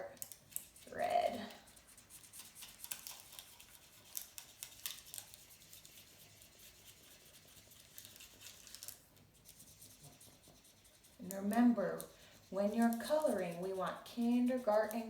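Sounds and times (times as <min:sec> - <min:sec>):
marker scribbling on paper: 0:00.6 - 0:15.0.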